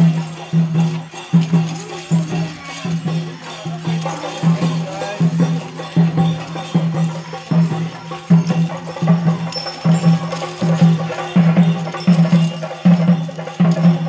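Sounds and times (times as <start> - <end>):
music with percussive beat: 0.0 - 14.0.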